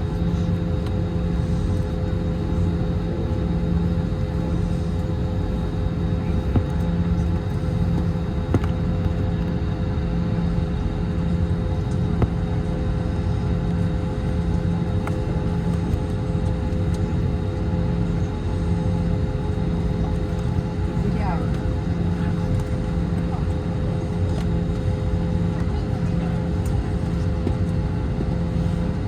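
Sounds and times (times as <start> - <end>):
low rumble and hum: 0.0 - 29.0.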